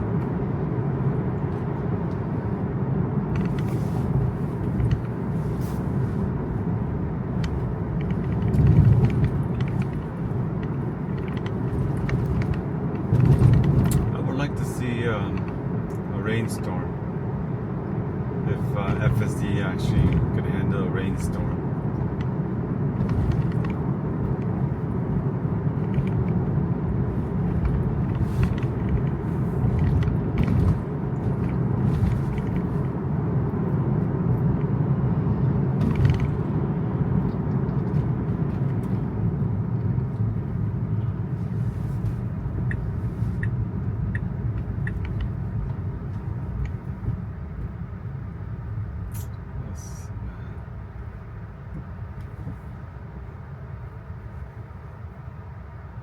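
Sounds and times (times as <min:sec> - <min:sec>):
tyres rumbling on wet road: 0:01.0 - 0:17.0, 0:18.4 - 0:48.0.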